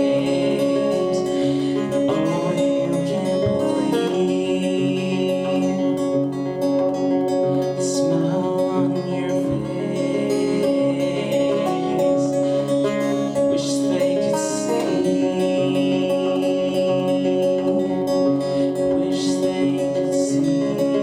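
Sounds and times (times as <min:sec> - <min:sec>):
acoustic guitar strumming: 0:00.0 - 0:21.0
man singing: 0:00.0 - 0:21.0.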